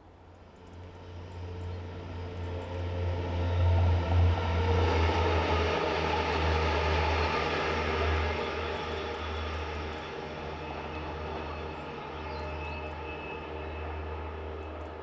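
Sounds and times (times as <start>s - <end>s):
rushing rail noise: 0.0s - 15.0s.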